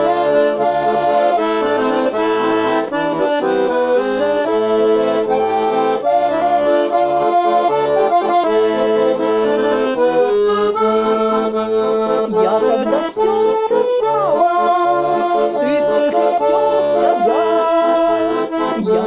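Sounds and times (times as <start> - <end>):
button accordion playing: 0.0 - 19.0.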